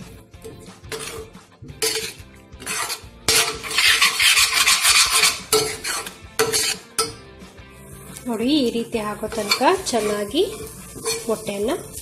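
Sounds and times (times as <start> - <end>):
spoon scraping metal pan: 0.0 - 7.3, 8.0 - 12.0.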